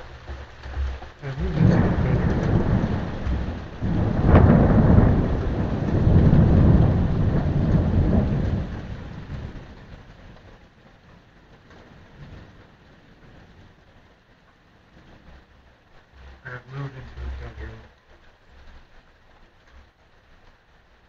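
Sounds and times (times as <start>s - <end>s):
thunder rumbling and cracking: 0.9s - 14.2s, 14.8s - 19.0s.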